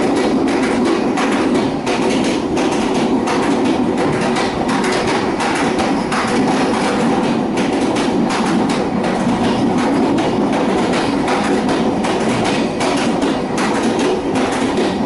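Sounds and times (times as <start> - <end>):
train rolling rumble: 0.0 - 15.0
wheels clacking on rails: 0.0 - 15.0.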